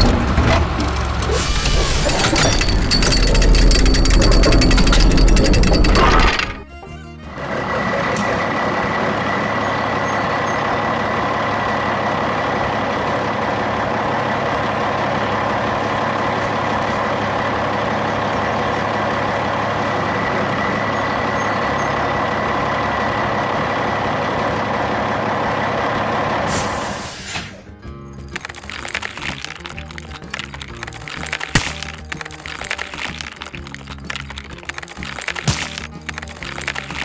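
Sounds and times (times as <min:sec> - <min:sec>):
truck engine droning: 0:00.0 - 0:37.0.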